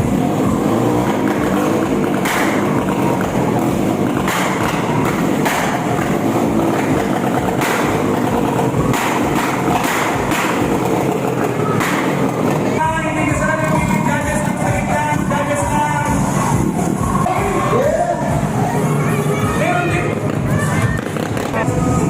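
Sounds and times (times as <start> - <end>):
motorcycle engine running: 0.0 - 22.0
motorcycle throttle blips: 0.0 - 22.0.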